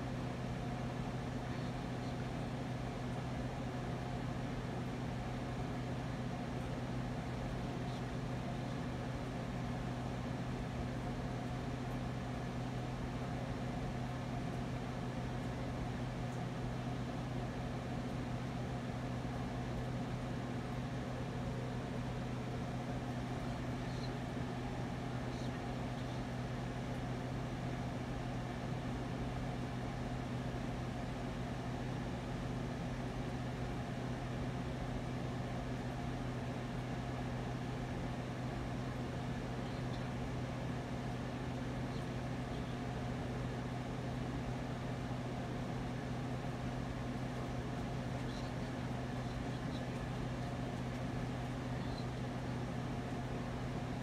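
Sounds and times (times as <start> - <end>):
low even hum: 0.0 - 54.0.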